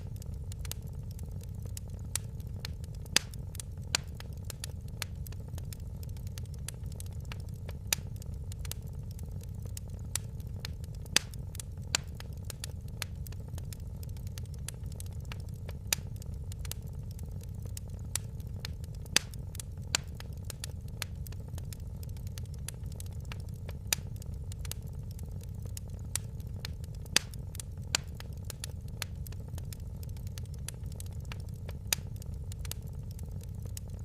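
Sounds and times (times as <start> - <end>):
fire crackling: 0.0 - 34.0
low rumble: 0.0 - 34.0.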